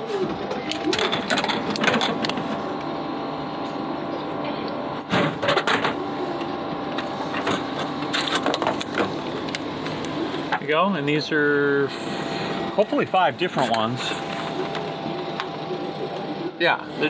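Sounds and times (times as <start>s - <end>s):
vending machine whir: 0.0s - 17.0s.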